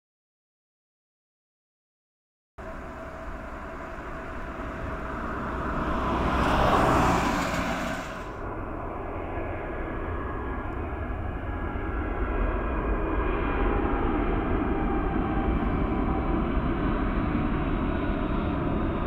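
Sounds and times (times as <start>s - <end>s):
faint engine whine: 2.6s - 19.0s
jet engines roaring: 2.6s - 19.0s.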